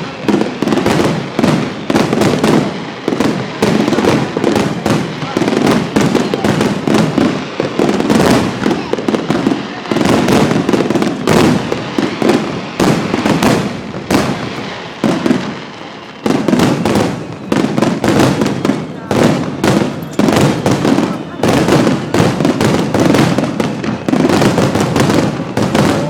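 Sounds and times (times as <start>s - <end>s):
fireworks booming: 0.0s - 26.0s.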